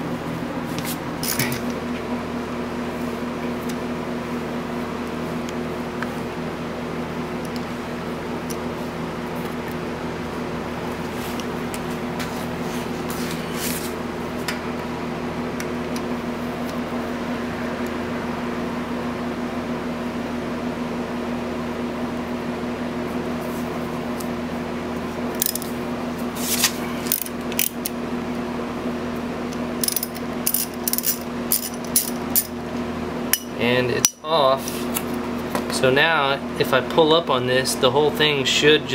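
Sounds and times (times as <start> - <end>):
electric hum: 0.0 - 38.9.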